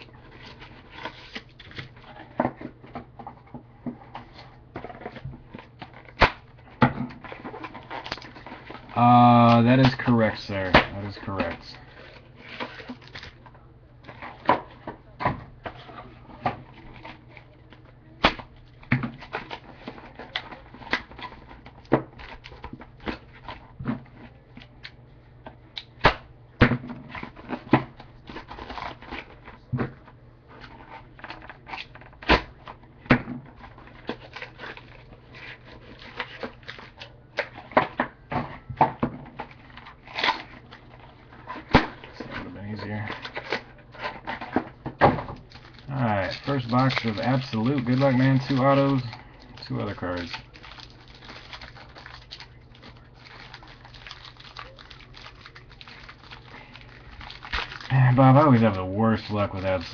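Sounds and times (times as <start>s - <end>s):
cards and packs handled: 0.0s - 25.0s, 27.0s - 59.9s
steady low hum: 0.0s - 59.9s.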